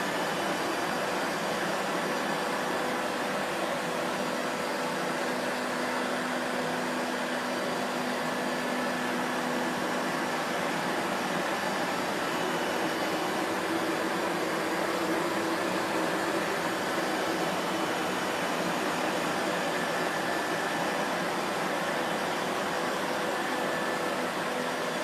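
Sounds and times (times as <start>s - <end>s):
vacuum cleaner motor running: 0.0s - 25.0s.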